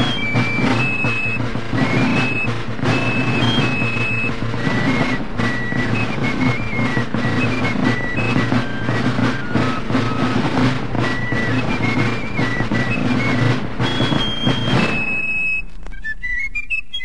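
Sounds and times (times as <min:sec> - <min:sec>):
steady drumming: 0:00.0 - 0:15.9
fife melody: 0:00.0 - 0:17.0.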